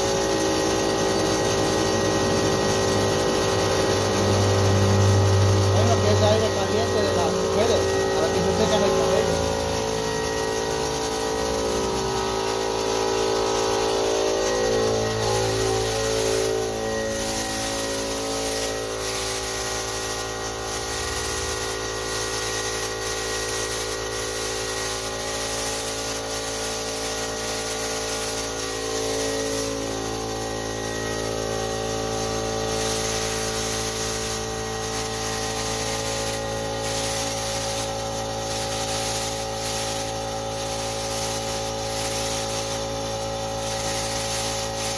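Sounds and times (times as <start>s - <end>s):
air compressor droning: 0.0s - 44.9s
paint spray gun hissing: 0.0s - 44.9s.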